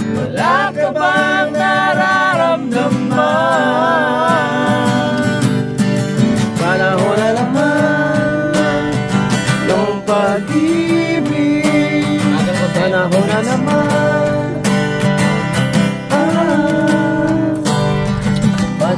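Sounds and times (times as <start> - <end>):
acoustic guitar strumming: 0.0 - 18.9
man singing with vibrato: 0.0 - 18.9.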